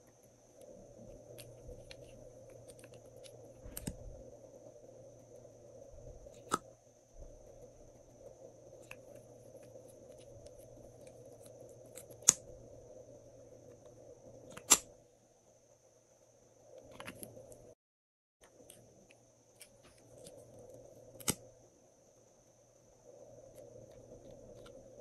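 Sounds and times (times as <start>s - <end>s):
steady low hum: 0.0s - 17.8s, 18.4s - 25.0s.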